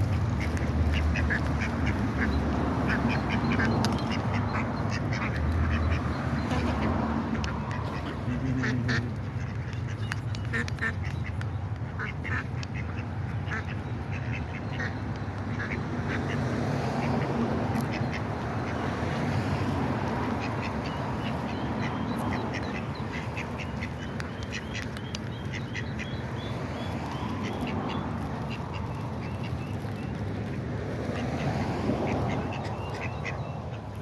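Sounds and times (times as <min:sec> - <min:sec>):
ducks quacking: 0:00.0 - 0:34.0.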